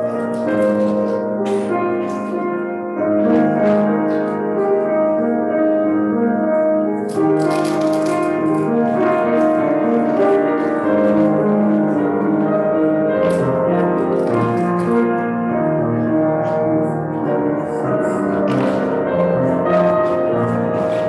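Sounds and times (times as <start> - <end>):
solo piano chords and melody: 0.0 - 21.0.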